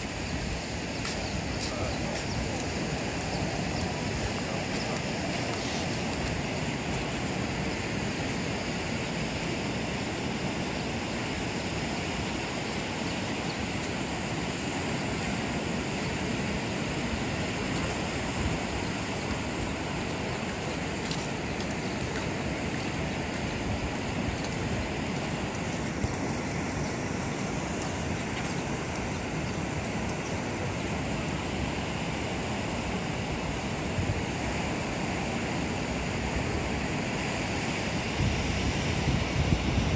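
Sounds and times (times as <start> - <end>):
ocean surf: 0.0 - 39.9.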